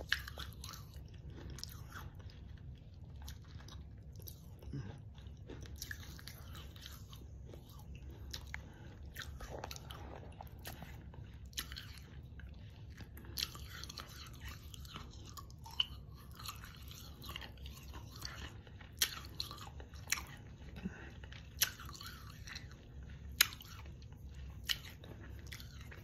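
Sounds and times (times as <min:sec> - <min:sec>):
person chewing gritty clay: 0:00.0 - 0:26.0.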